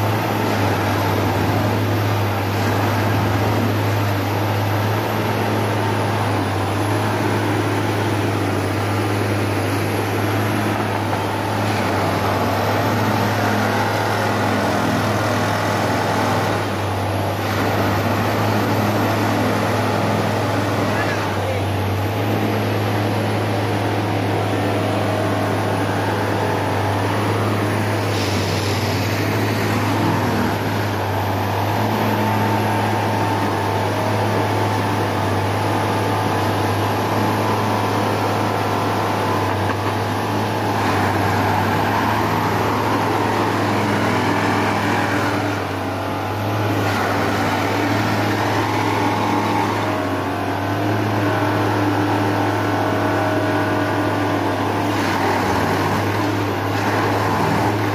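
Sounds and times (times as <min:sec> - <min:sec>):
high machine whine: 0:00.0 - 0:57.9
machine engine hum: 0:00.0 - 0:57.9.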